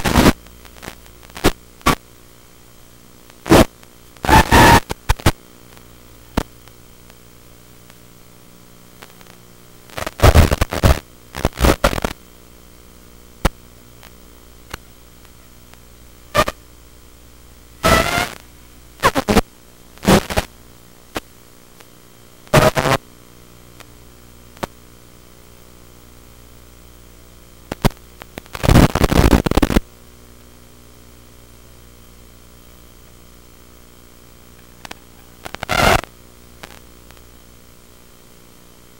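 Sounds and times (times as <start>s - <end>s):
bursts of static: 0.0s - 38.9s
steady radio hiss: 0.0s - 38.9s.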